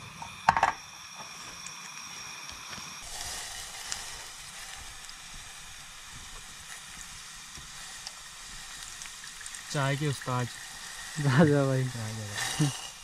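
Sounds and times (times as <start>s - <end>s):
camp stove hissing: 0.0s - 13.0s.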